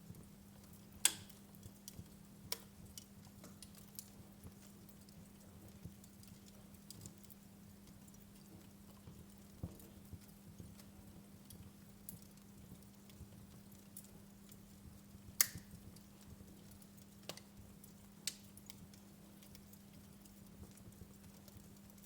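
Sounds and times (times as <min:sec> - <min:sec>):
logs crackling in fireplace: 0:00.0 - 0:22.0
fire popping: 0:00.1 - 0:22.0.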